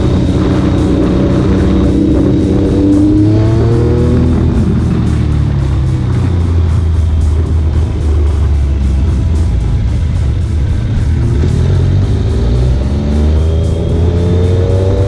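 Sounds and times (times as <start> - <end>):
background music: 0.0 - 15.0
motorcycle engine revving: 0.0 - 15.0.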